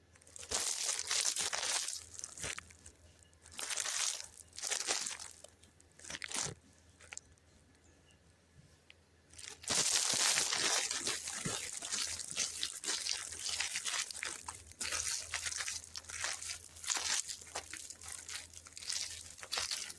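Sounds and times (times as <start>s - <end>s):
plastic wrapper crinkling: 0.2s - 7.2s, 9.3s - 19.9s.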